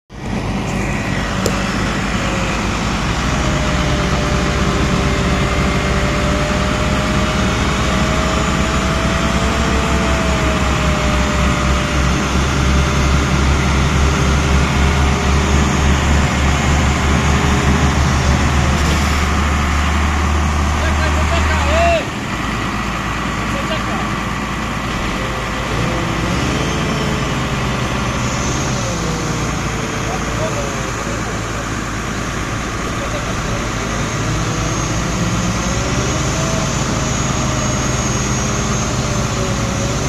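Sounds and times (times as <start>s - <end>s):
diesel engines under heavy load: 0.0s - 40.0s.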